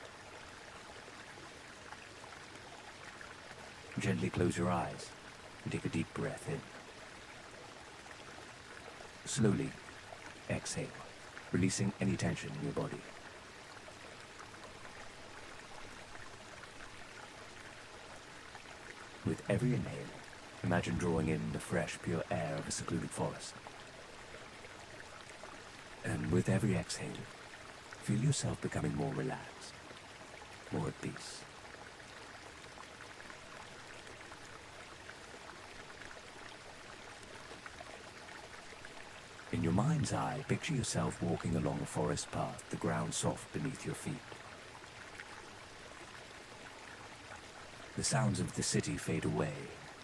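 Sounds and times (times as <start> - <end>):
flowing water: 0.0 - 50.0.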